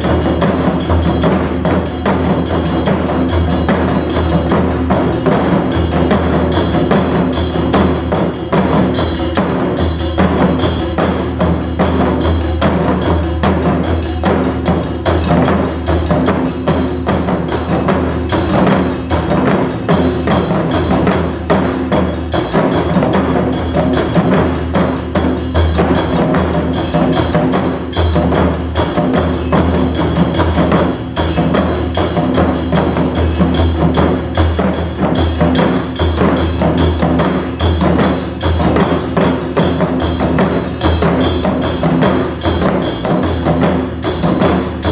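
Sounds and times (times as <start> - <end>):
fast taiko drumming: 0.0 - 44.9.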